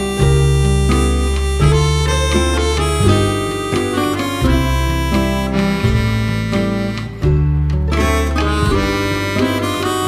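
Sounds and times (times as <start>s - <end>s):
plucked guitar: 0.0s - 10.0s
reedy wind melody: 0.0s - 10.0s.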